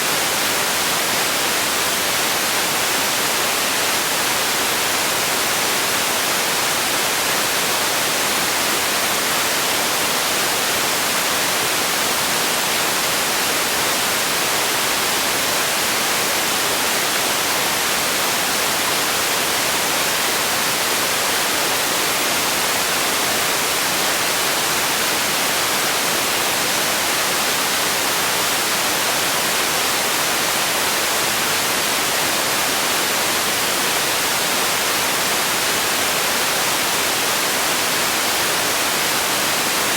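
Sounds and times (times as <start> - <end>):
steady noise hiss: 0.0 - 39.9.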